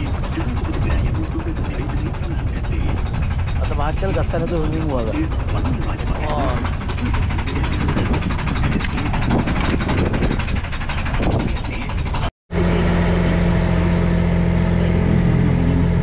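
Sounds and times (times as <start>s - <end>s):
boat engine running: 0.0s - 16.0s
boat wake washing: 0.0s - 16.0s.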